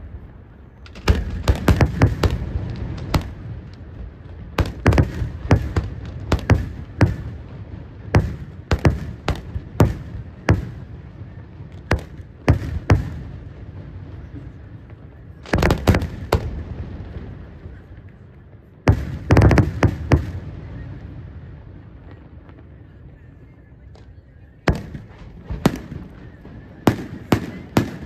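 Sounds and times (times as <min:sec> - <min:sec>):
rumbling echo: 0:00.0 - 0:28.0
firework bangs: 0:00.9 - 0:23.1, 0:24.6 - 0:28.0.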